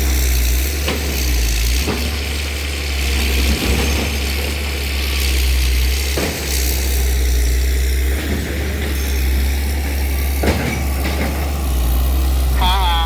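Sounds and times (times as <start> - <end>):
excavator diesel engine rumbling: 0.0 - 13.0.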